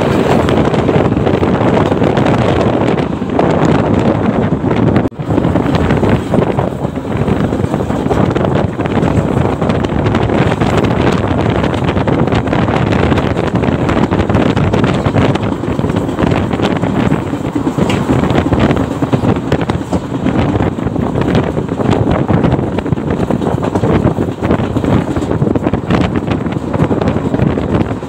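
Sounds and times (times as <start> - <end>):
train wheels rumbling on track: 0.0 - 28.0
wind buffeting microphone: 0.0 - 28.0.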